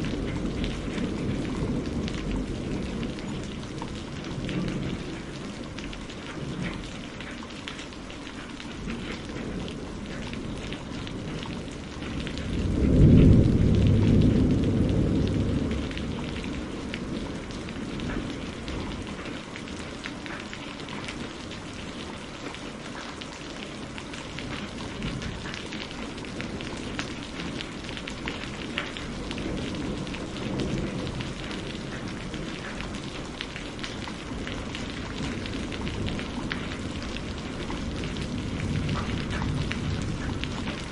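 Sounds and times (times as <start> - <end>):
thunder rolling: 0.0 - 7.2, 8.8 - 19.5, 23.8 - 40.9
steady rain falling: 0.0 - 40.9.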